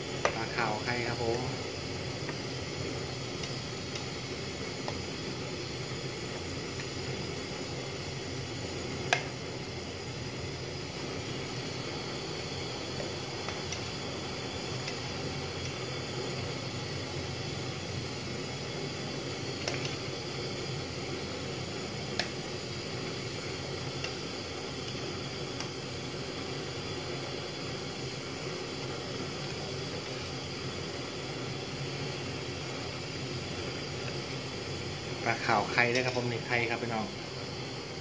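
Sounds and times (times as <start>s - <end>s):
soup pot hissing on gas burner: 0.0s - 38.0s.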